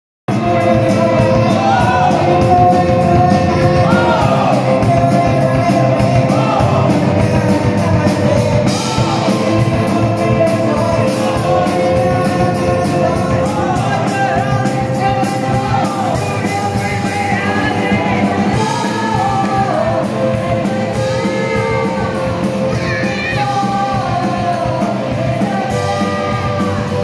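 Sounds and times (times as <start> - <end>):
rock band playing: 0.3 - 27.0.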